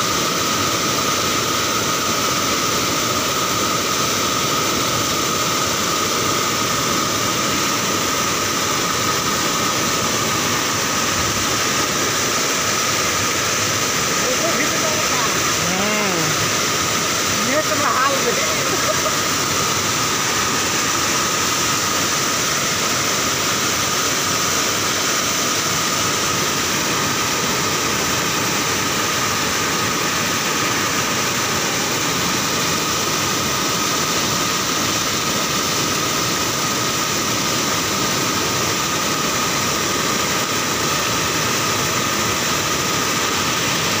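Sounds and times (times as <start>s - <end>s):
floodwater rushing roar: 0.0s - 44.0s.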